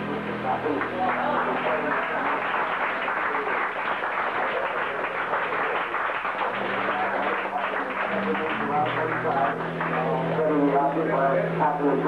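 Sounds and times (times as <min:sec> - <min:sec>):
audience clapping and cheering: 0:00.0 - 0:12.0.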